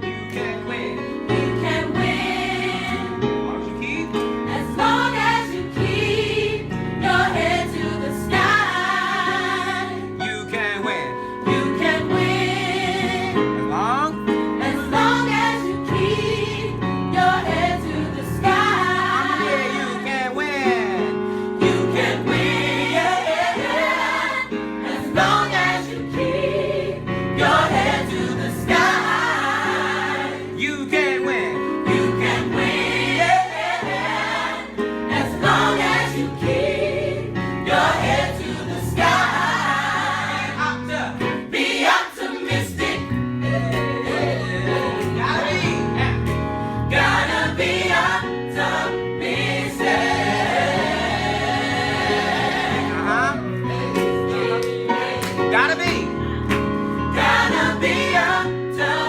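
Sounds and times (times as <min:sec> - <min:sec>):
gospel choir singing: 0:00.0 - 0:59.0
instrumental backing: 0:00.0 - 0:59.0.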